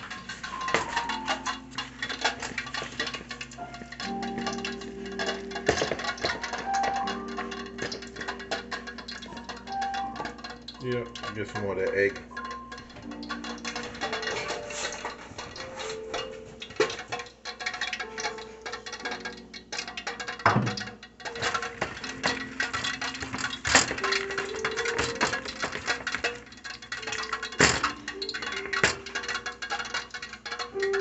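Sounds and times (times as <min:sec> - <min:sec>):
bowls and utensils clinking: 0:00.0 - 0:31.0
quiet background music: 0:00.0 - 0:31.0.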